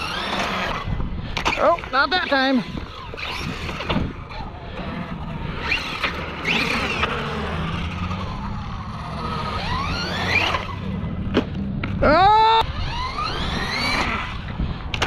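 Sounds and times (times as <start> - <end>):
toy truck electric motor whining: 0.0 - 11.2, 12.2 - 15.0.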